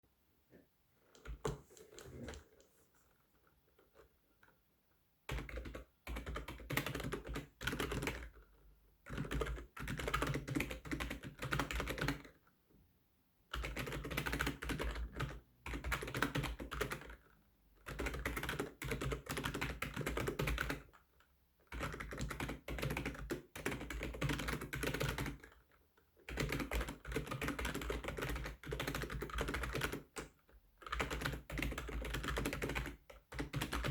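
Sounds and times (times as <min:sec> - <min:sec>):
fast typing on keyboard: 0:01.2 - 0:02.6, 0:05.3 - 0:12.4, 0:13.5 - 0:21.0, 0:21.6 - 0:33.9.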